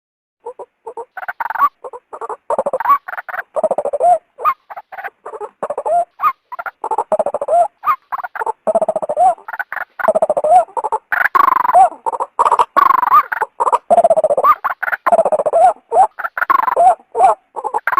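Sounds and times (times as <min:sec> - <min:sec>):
waterhen calling: 0:00.4 - 0:17.9.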